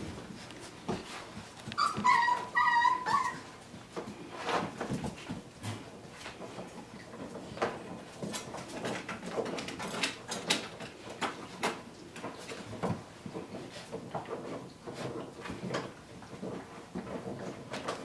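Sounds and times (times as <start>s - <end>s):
puppies scuffling on floor: 0.0s - 18.0s.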